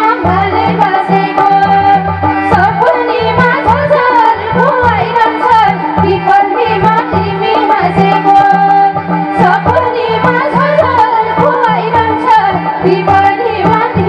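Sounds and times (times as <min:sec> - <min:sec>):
hand drum rhythm: 0:00.0 - 0:14.0
wavering folk melody: 0:00.0 - 0:14.0.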